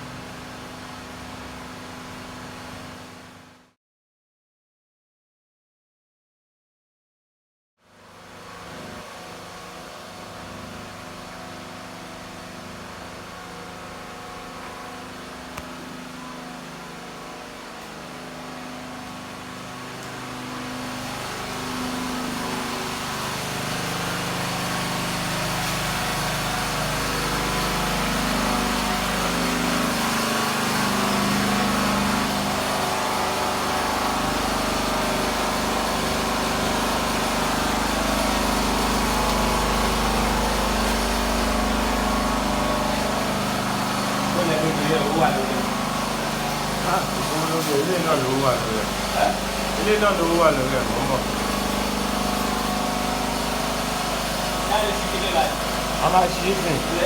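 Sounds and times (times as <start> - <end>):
small engine running: 8.0 - 57.0.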